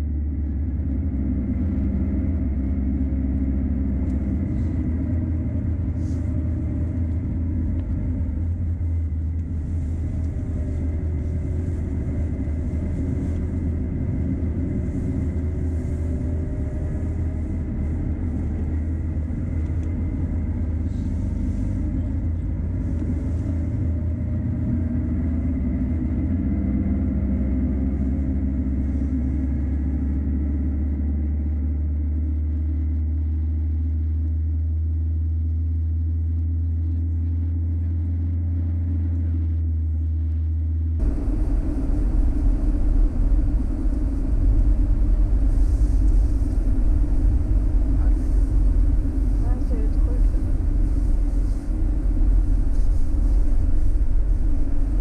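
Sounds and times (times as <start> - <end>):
van engine and road rumble: 0.0 - 55.0.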